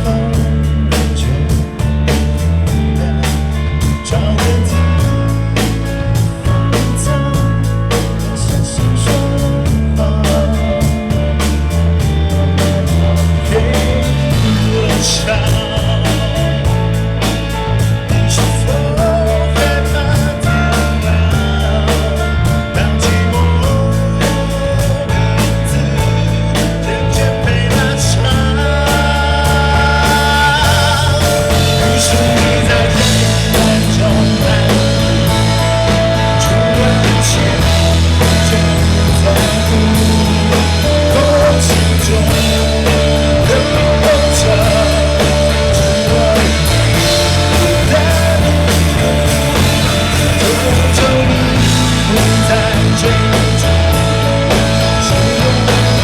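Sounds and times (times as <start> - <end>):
live band with sung vocals: 0.0 - 56.0.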